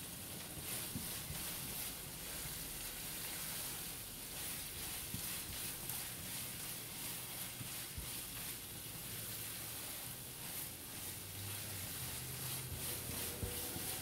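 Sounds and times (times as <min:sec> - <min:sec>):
low sizzle: 0:00.0 - 0:14.0
spatula scraping frying pan: 0:00.0 - 0:14.0.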